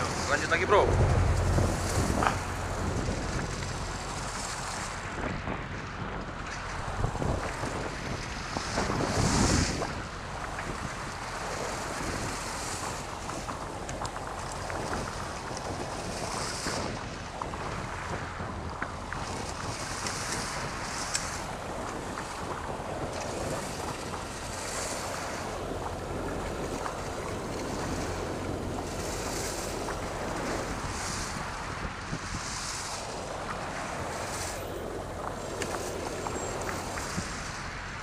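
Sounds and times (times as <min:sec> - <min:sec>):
sea water washing: 0:00.0 - 0:38.0
wind buffeting microphone: 0:00.0 - 0:38.0.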